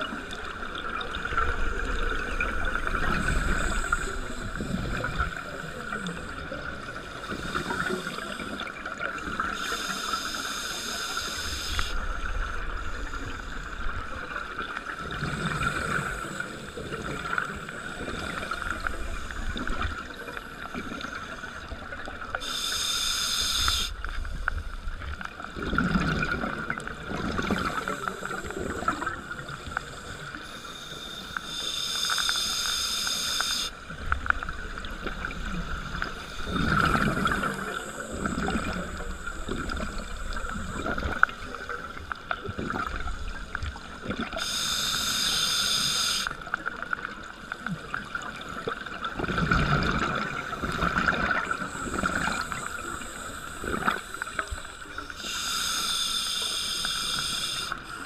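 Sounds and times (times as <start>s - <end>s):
scuba regulator bubbling: 0.0s - 47.0s, 47.6s - 58.0s
underwater hiss and rumble: 0.0s - 58.0s.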